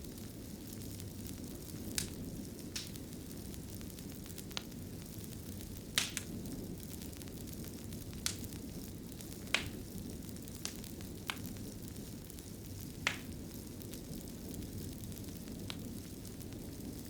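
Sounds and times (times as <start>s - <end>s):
fireplace fire crackling: 0.0s - 17.0s
sharp fire pops: 0.0s - 17.0s.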